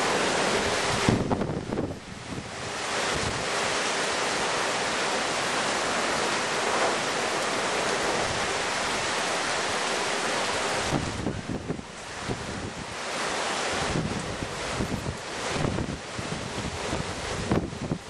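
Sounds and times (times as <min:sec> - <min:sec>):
gusty wind: 0:00.0 - 0:18.0
heavy downpour: 0:00.0 - 0:18.0.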